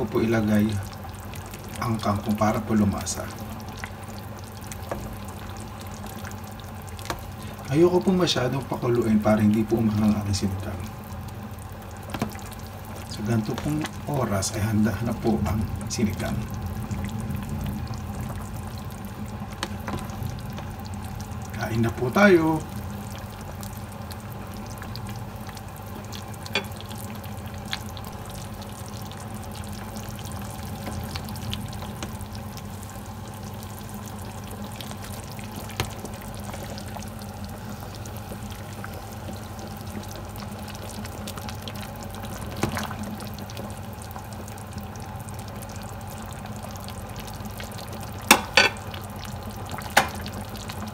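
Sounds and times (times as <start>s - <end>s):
pot bubbling: 0.0s - 50.9s.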